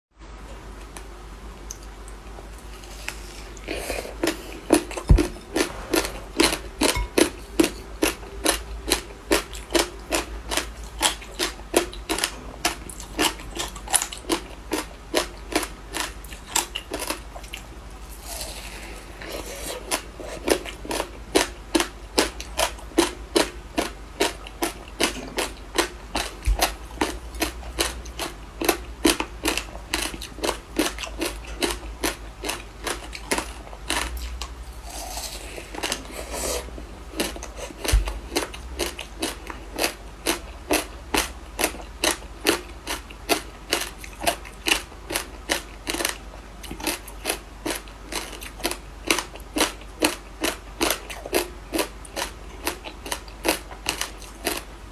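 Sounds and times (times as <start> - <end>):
frozen ice being chewed: 2.5 - 54.7.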